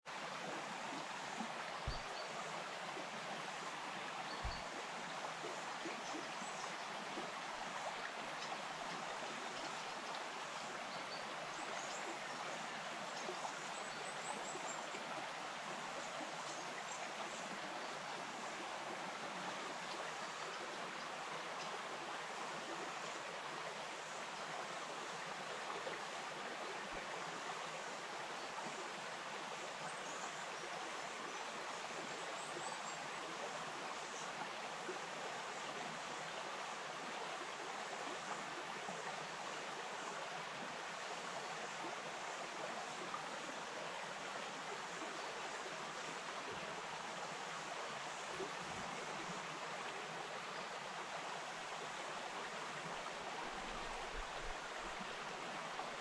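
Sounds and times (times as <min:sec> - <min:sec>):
stream flowing: 0:00.1 - 0:56.0.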